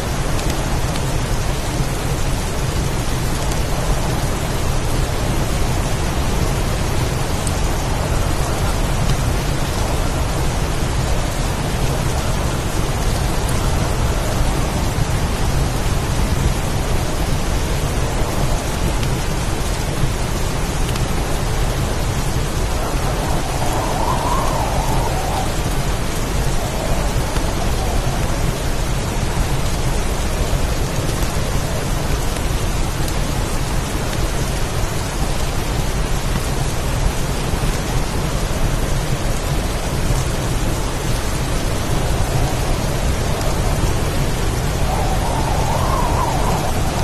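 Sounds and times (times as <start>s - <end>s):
wind howling: 0.0s - 35.1s, 38.6s - 47.0s
constant low rumble: 0.0s - 47.0s
heavy rain downpour: 0.0s - 47.0s.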